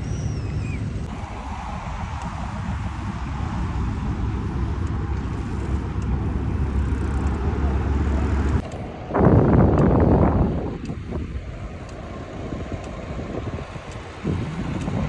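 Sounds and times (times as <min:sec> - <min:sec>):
city traffic: 0:00.0 - 0:15.0
wind rumbling on microphone: 0:00.0 - 0:15.0.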